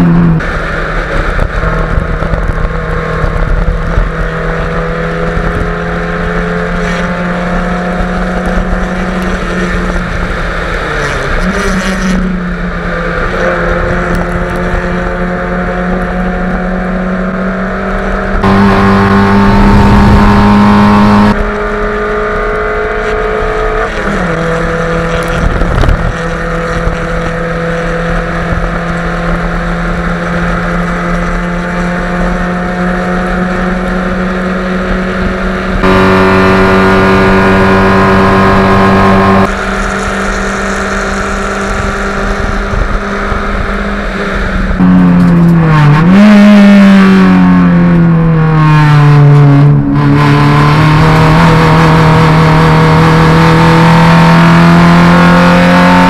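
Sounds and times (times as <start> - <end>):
race car engine at high revs: 0.0 - 56.0
wind rushing over microphone: 0.0 - 56.0.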